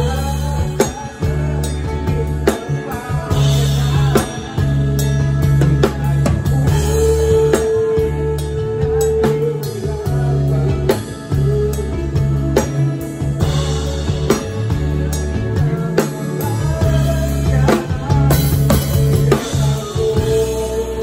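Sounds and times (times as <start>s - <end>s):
drum kit beat: 0.0s - 21.0s
live band playing: 0.0s - 21.0s
low bass notes: 0.0s - 21.0s.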